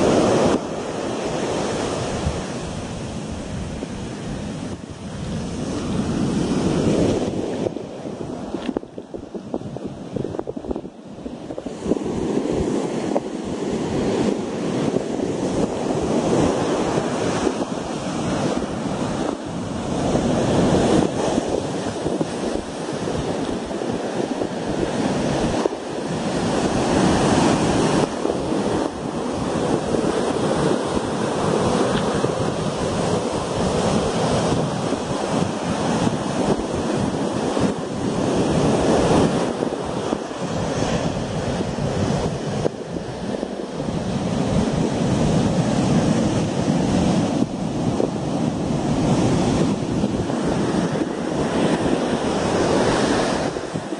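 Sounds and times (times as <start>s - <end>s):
storm surf breaking: 0.0s - 53.9s
wind buffeting microphone: 0.0s - 53.9s.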